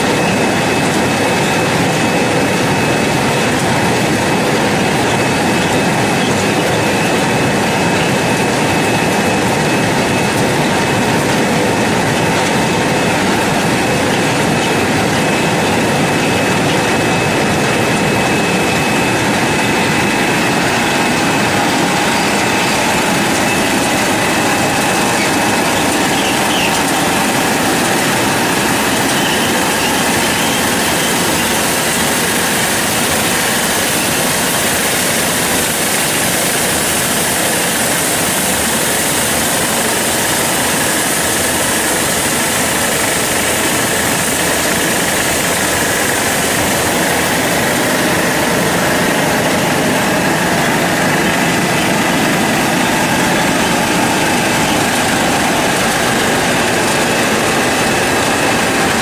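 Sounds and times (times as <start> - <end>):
faint machine whines: 0.0 - 59.0
vegetable washing machine running: 0.0 - 59.0.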